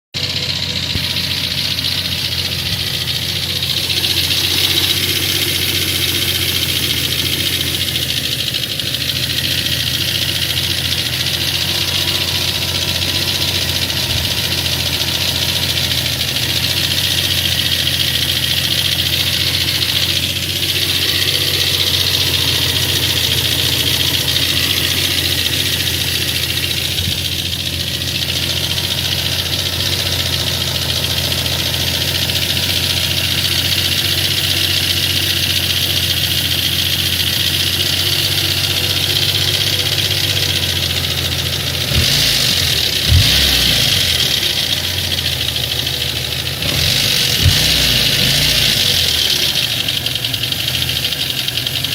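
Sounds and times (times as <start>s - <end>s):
car engine idling with a knock: 0.2s - 51.9s.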